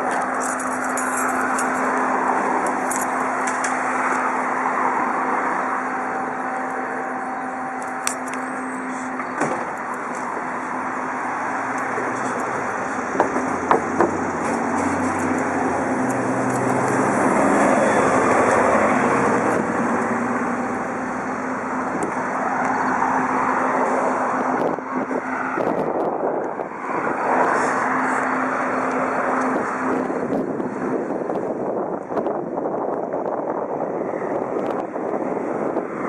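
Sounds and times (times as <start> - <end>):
steady droning hum: 0.0 - 35.8.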